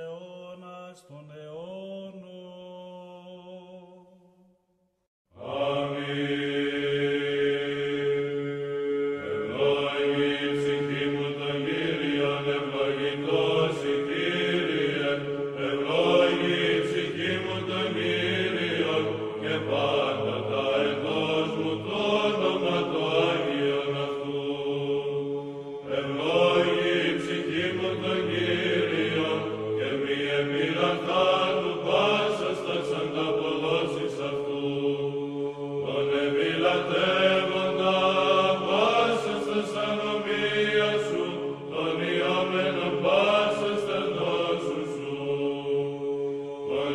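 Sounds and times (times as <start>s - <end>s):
voices chanting slow melody: 5.4s - 46.9s.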